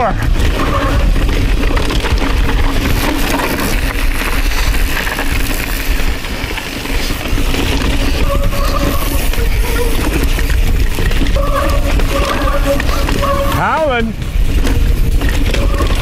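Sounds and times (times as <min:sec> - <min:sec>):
wind rushing over microphone: 0:00.0 - 0:16.0
bike chain and frame clattering: 0:00.2 - 0:16.0.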